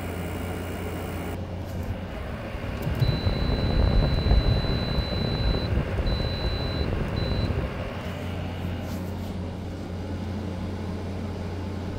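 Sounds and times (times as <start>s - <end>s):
heat pump rumbling: 0.0s - 11.9s
steady low hum: 0.0s - 11.9s.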